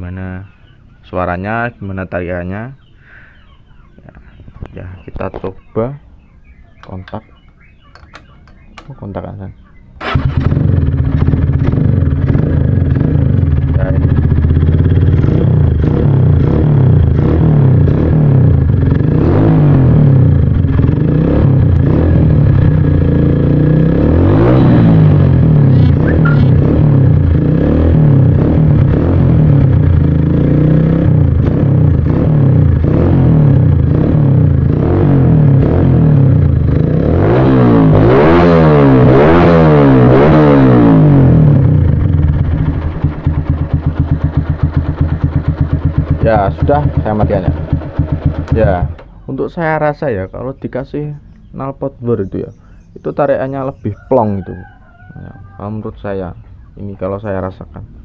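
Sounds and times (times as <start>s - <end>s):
motorcycle engine revving: 5.0s - 54.7s.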